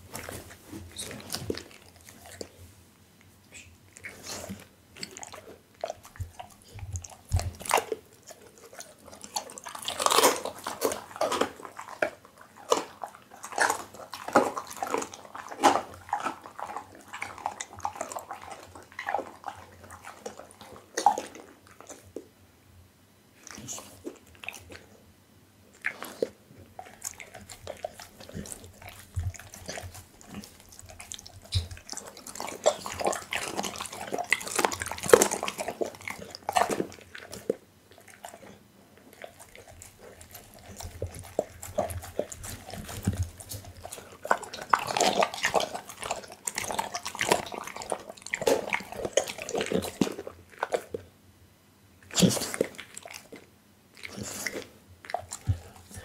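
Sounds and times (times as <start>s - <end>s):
dog licking and chewing meat: 0.0s - 22.4s, 23.4s - 25.0s, 25.7s - 51.2s, 52.0s - 56.0s.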